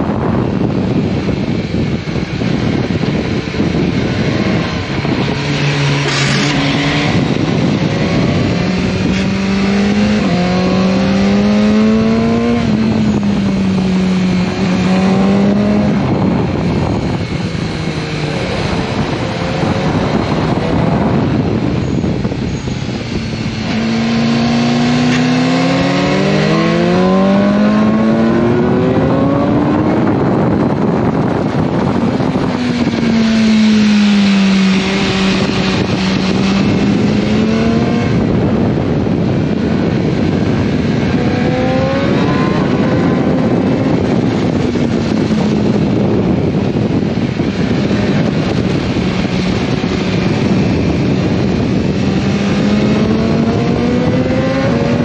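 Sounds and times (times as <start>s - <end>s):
motorcycle engine revving: 0.0s - 55.0s
wind noise rushing: 0.0s - 55.0s.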